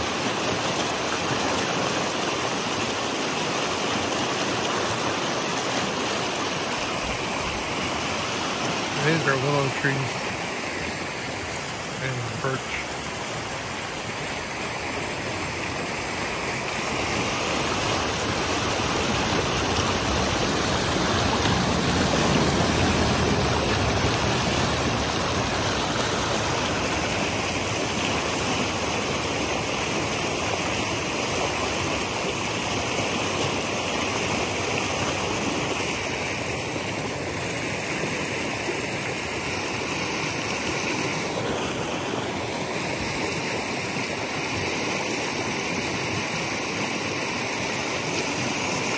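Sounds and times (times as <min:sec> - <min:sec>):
creek rushing over stones: 0:00.0 - 0:48.9.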